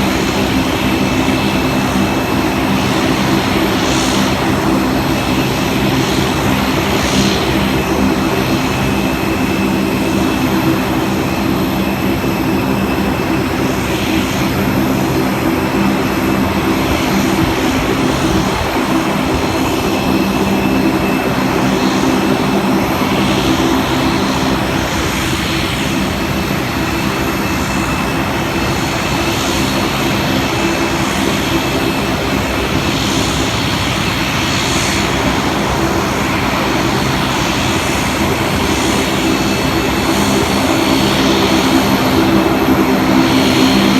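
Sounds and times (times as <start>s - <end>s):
aircraft engine droning: 0.0s - 43.9s.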